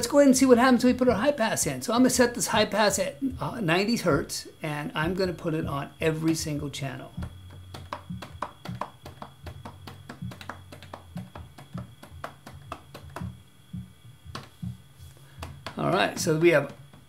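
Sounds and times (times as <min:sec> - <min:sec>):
hi-hat ticks: 0:02.1 - 0:16.8.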